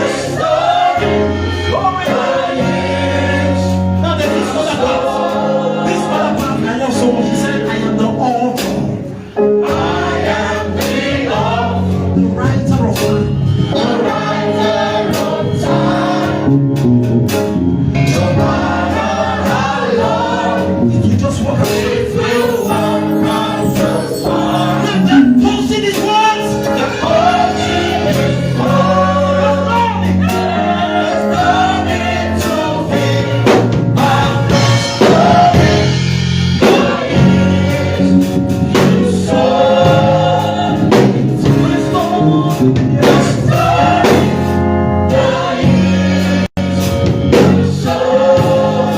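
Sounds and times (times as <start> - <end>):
choir singing gospel: 0.0 - 48.9
instrumental accompaniment: 0.0 - 48.9.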